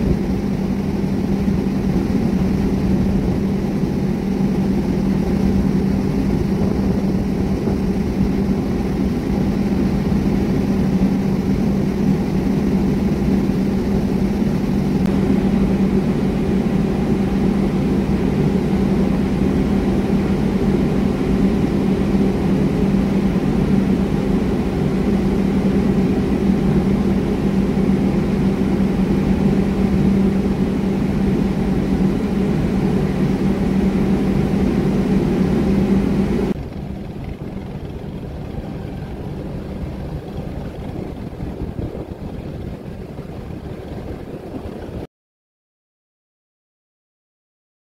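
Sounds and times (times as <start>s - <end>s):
ship engines droning: 0.0s - 45.0s.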